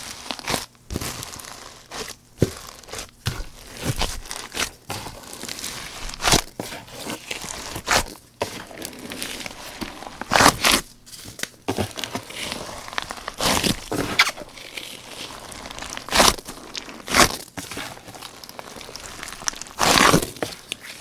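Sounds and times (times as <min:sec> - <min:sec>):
slime crackling and popping: 0:00.0 - 0:21.0.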